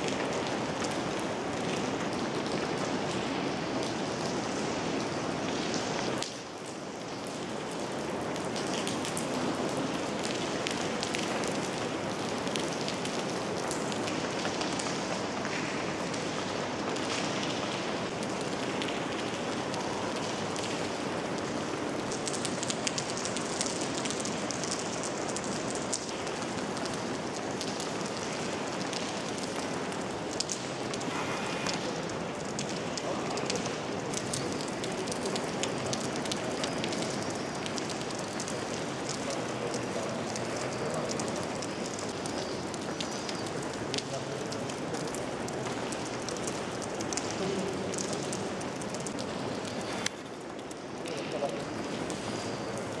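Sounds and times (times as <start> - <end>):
rain pattering: 0.0 - 53.0
sharp drips ticking: 0.0 - 53.0.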